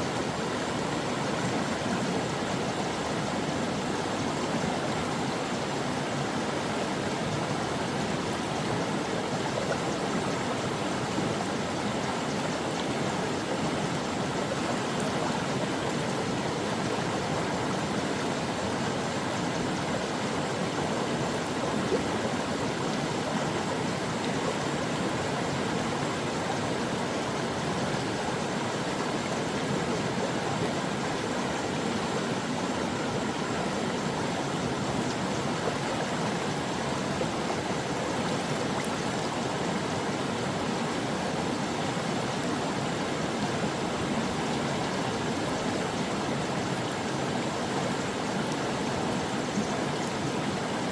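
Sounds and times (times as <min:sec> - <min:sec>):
stream of water flowing: 0:00.0 - 0:50.9.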